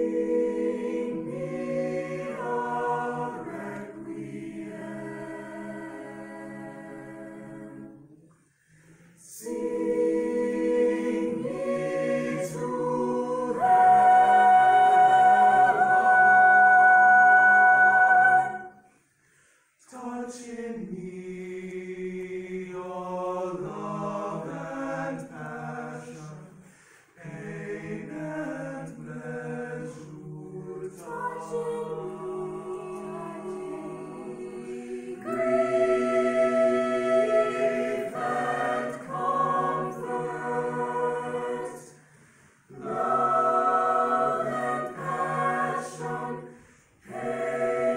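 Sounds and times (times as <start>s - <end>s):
choir singing in parts: 0.0s - 19.0s, 19.7s - 47.9s.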